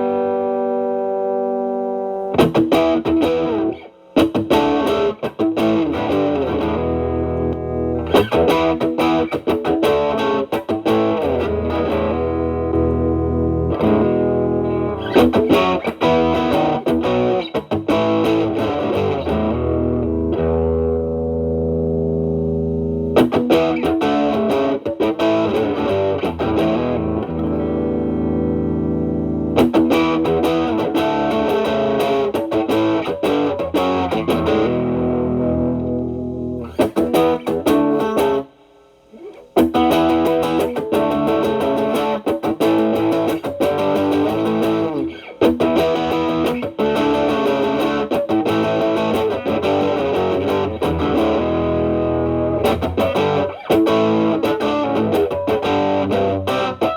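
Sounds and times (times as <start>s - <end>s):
distorted electric guitar: 0.0s - 56.9s.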